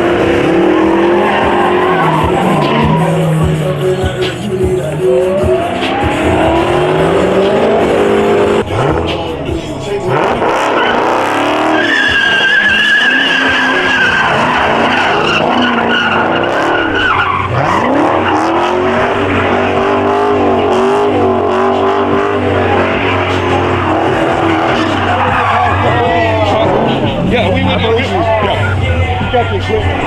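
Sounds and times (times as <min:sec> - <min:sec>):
engine revving high: 0:00.0 - 0:30.0
tyres squealing: 0:00.0 - 0:30.0.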